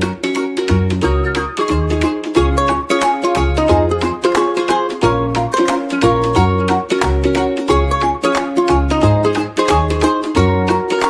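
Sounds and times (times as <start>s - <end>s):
plucked string tune with bass: 0.0s - 11.0s.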